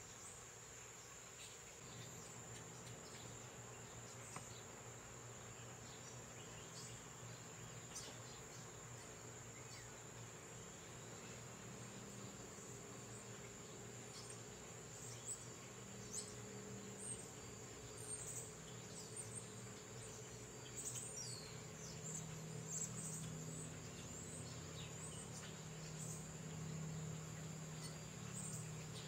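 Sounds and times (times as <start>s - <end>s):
insect drone: 0.0s - 29.0s
bird chirps: 5.5s - 29.0s.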